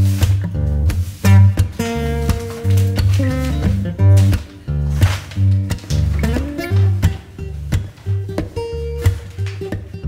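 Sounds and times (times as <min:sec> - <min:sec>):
acoustic guitar with bass: 0:00.0 - 0:10.0.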